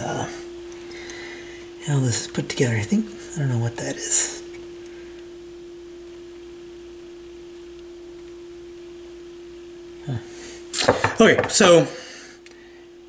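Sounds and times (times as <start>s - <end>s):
steady single-pitch hum: 0.0s - 13.0s.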